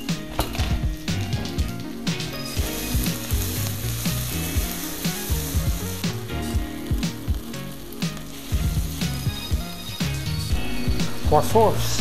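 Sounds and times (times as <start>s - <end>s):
background music: 0.0s - 12.0s
food sizzling in a wok: 0.0s - 12.0s.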